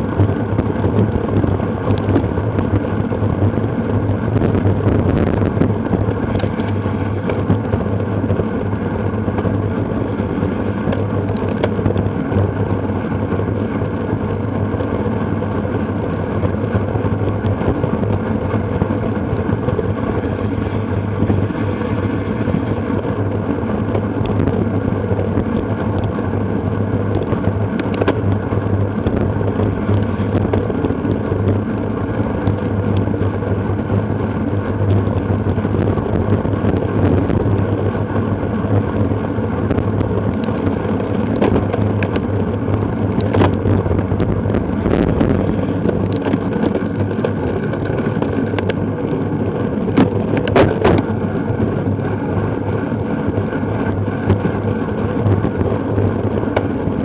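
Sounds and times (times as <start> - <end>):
wind rush and road noise: 0.0 - 57.0.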